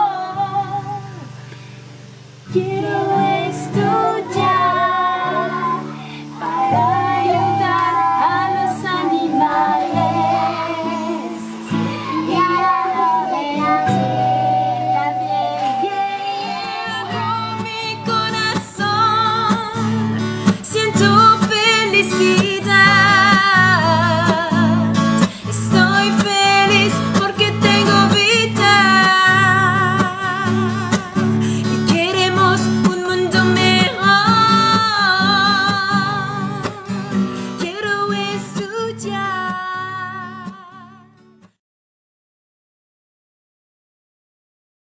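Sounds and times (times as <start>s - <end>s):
people singing: 0.0s - 1.3s, 2.5s - 40.8s
strummed acoustic guitar: 0.0s - 41.6s.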